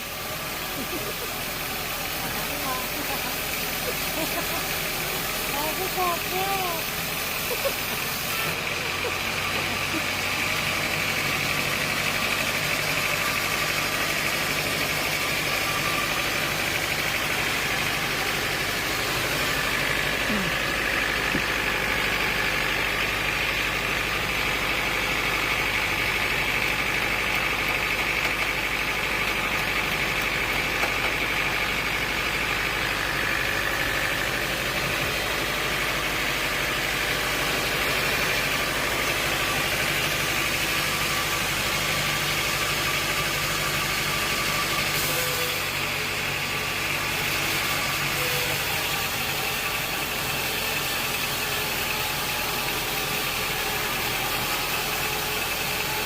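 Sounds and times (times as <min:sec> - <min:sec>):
sawmill machinery hum: 0:00.0 - 0:56.0.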